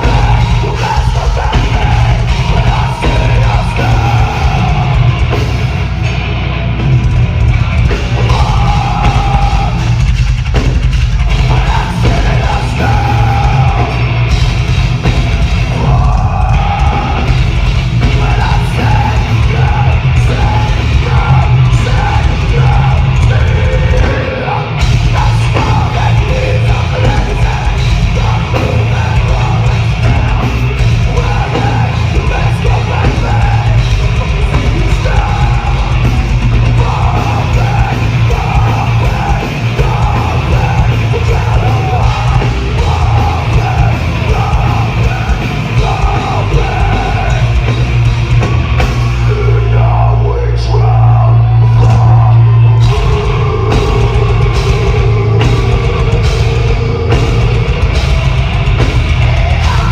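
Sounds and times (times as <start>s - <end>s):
screamed vocals: 0.0s - 5.6s, 8.2s - 10.0s, 15.3s - 48.3s, 48.9s - 59.9s
heavy drums: 0.0s - 59.9s
heavy guitars: 0.0s - 59.9s.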